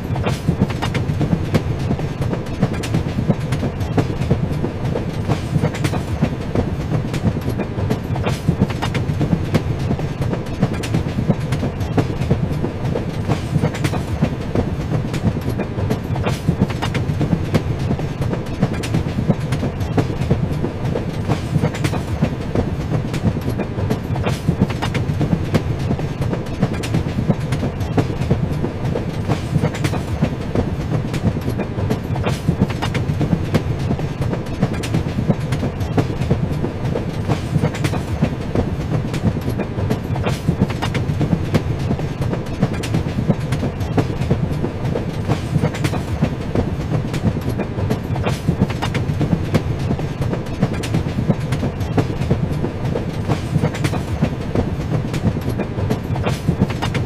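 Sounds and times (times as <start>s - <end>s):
train rumbling on track: 0.0s - 57.0s
wheel clicks over rail joints: 0.0s - 57.0s.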